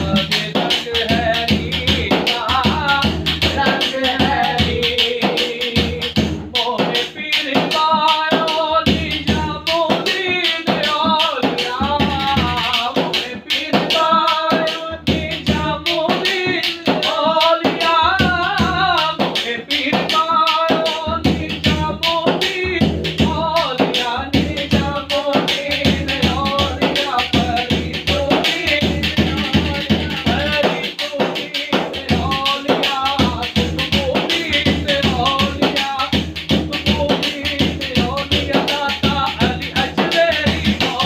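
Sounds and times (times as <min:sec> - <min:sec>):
frame drum beating fast rhythm: 0:00.0 - 0:41.0.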